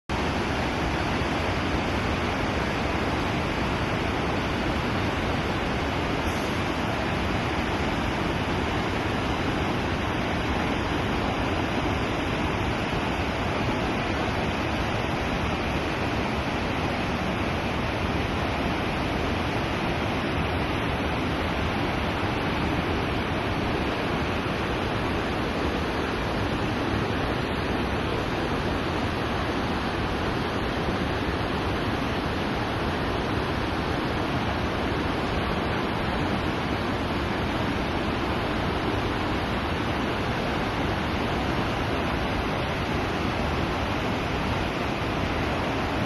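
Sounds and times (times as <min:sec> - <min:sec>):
rushing water: 0:00.1 - 0:46.0.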